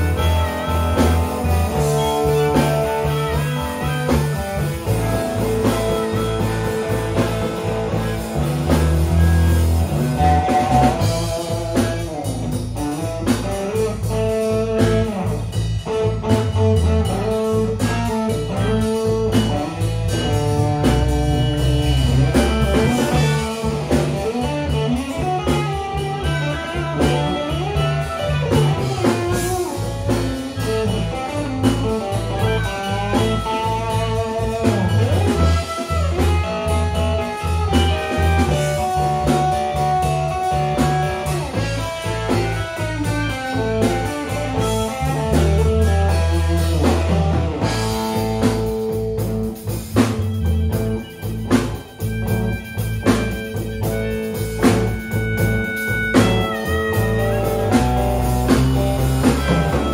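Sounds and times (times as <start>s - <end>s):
electric bass: 0.0s - 59.9s
electric guitar: 0.0s - 59.9s
harmonica with bending notes: 0.0s - 59.9s.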